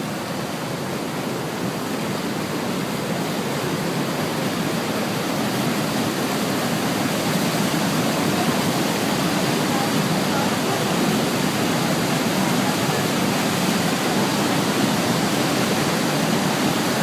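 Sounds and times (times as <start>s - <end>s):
rush of falling water: 0.0s - 17.0s.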